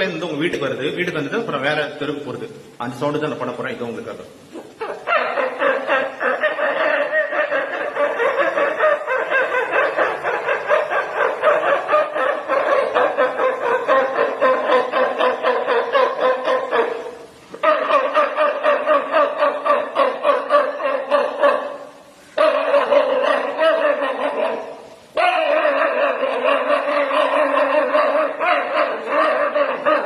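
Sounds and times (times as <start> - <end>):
man imitating dogs barking: 0.0 - 30.0.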